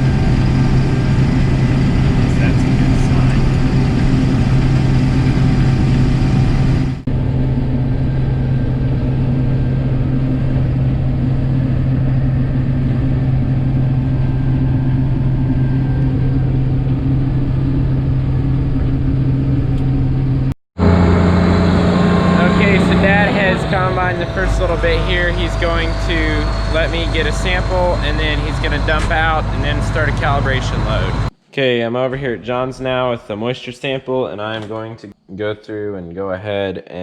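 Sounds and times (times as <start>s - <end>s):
combine harvester engine humming: 0.0s - 31.3s.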